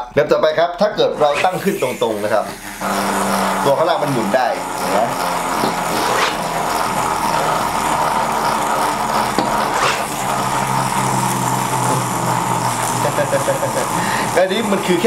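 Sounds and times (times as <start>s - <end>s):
spinning top whirring: 0.9s - 15.0s.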